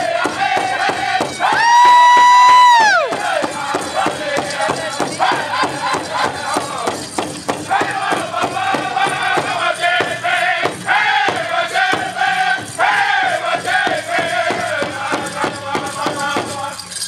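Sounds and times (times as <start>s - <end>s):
group singing in unison: 0.0s - 2.0s, 2.9s - 7.0s, 7.6s - 17.0s
fast steady drumbeat: 0.0s - 17.0s.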